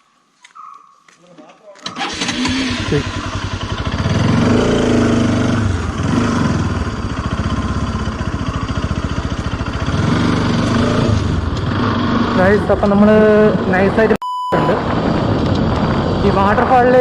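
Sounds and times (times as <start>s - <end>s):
motorcycle engine revving: 1.9s - 17.0s.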